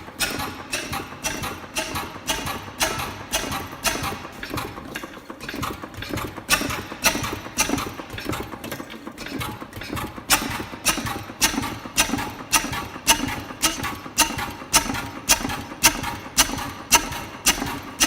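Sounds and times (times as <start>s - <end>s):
oil engine exhaust beats: 0.0s - 18.0s.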